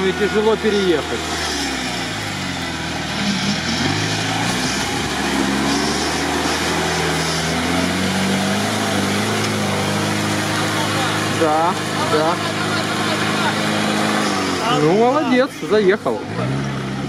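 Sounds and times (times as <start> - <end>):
off-road vehicle engine revving: 0.0 - 17.0
tires spinning in mud: 0.0 - 17.0.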